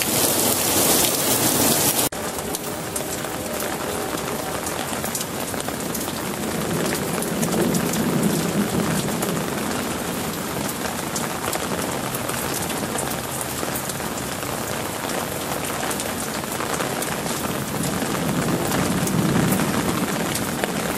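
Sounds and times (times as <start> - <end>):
heavy rain and hail: 0.0 - 20.9.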